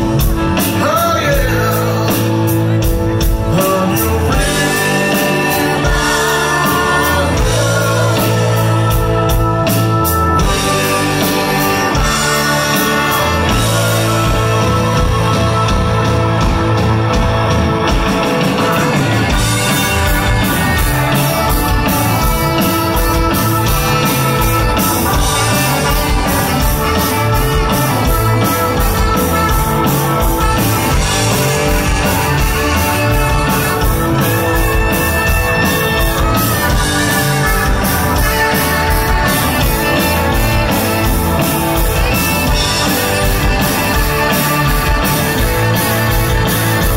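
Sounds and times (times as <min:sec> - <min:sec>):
live rock band playing: 0:00.0 - 0:46.9
regular drum beat: 0:00.0 - 0:46.9.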